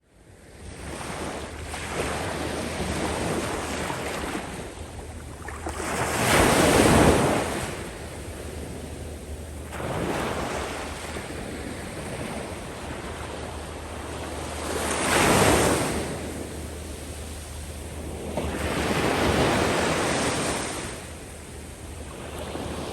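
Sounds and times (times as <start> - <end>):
low wind rumble on microphone: 0.1 - 22.9.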